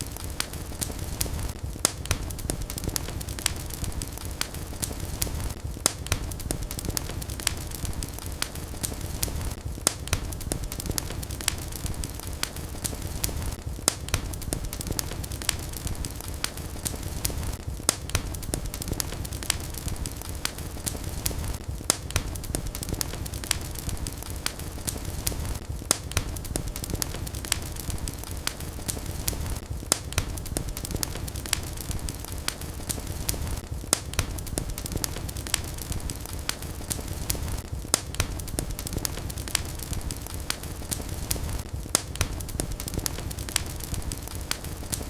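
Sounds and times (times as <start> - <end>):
low rumble of flame: 0.0 - 45.0
wood fire crackling and popping: 0.0 - 45.0.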